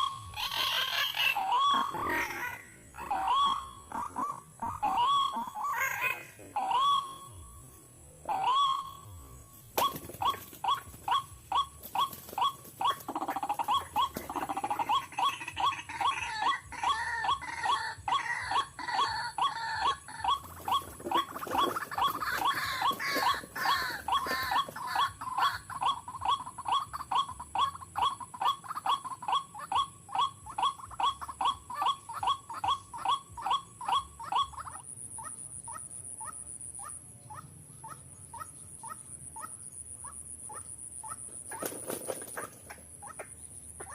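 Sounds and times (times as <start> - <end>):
waterhens calling wak wak: 0.0 - 7.4, 9.8 - 43.9.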